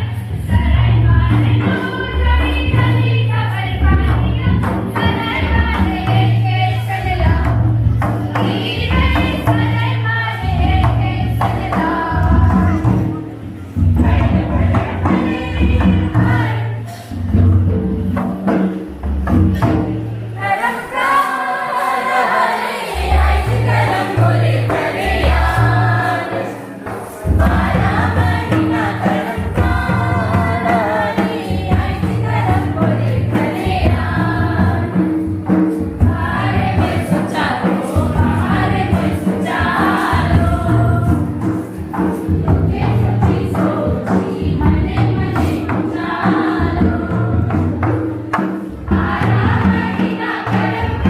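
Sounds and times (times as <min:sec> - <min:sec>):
group singing: 0:00.0 - 0:18.9, 0:19.6 - 0:51.0.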